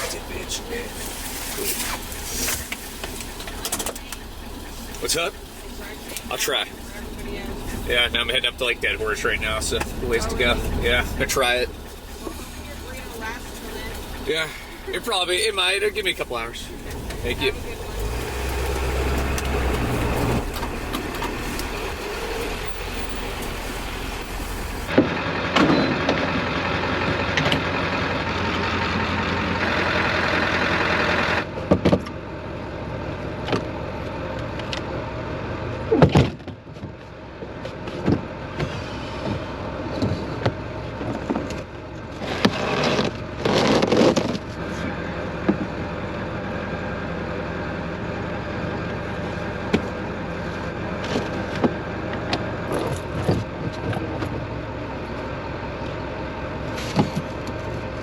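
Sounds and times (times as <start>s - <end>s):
diesel truck engine and road noise: 0.0s - 58.0s.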